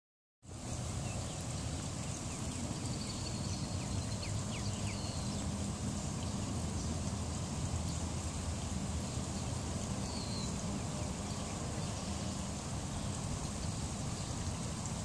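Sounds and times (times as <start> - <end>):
low drone of distant traffic: 0.4 - 15.0.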